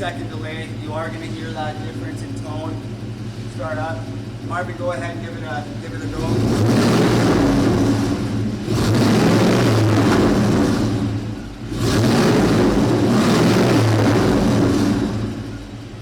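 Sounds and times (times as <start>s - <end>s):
car exhaust revving hard: 0.0s - 16.0s.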